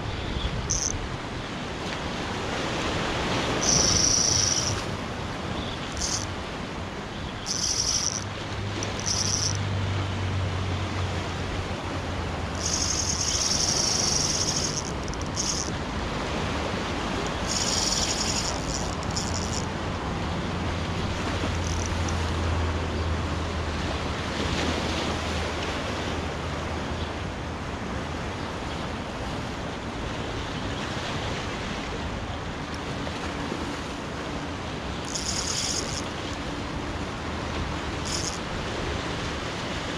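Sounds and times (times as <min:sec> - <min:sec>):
sea surf washing on shore: 0:00.0 - 0:39.9.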